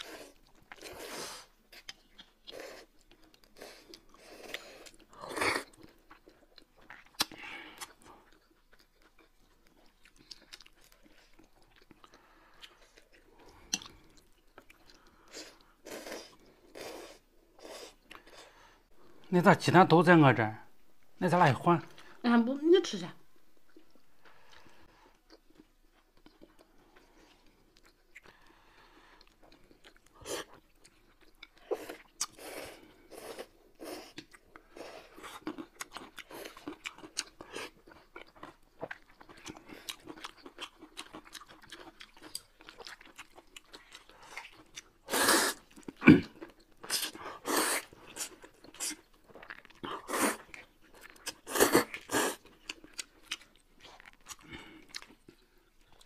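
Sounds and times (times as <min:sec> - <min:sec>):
chewing with wet clicks: 0:01.6 - 0:16.7, 0:23.6 - 0:56.0.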